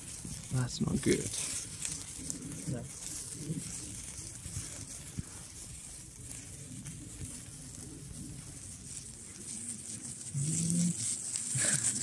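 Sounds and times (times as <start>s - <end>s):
sparkler fizzing and crackling: 0.0s - 12.0s.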